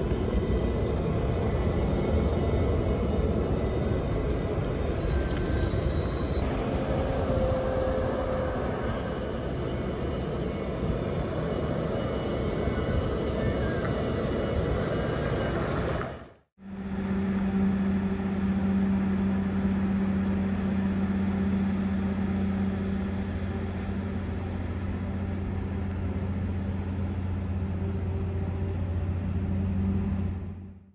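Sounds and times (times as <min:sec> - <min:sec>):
electric hum with deep drone: 0:00.0 - 0:16.0, 0:16.6 - 0:30.9.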